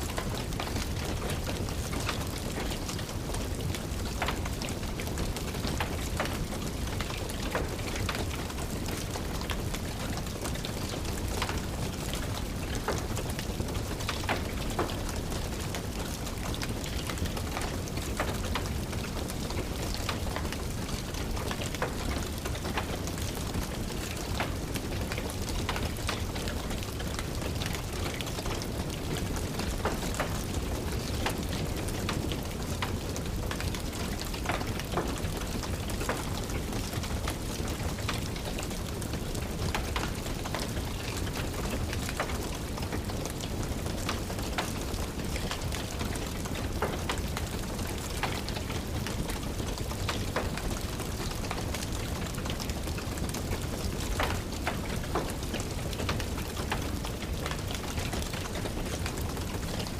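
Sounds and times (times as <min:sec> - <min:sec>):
steady rain: 0:00.0 - 0:59.9
wood fire crackling: 0:00.1 - 0:59.9.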